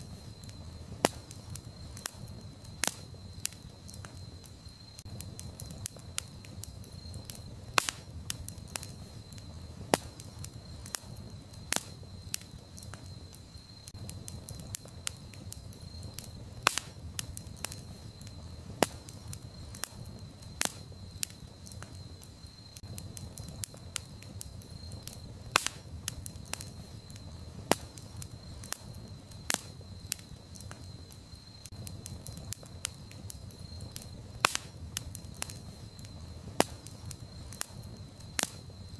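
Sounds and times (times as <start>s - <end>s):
campfire crackling and popping: 0.0s - 38.9s
low rumble of burning: 0.0s - 38.9s.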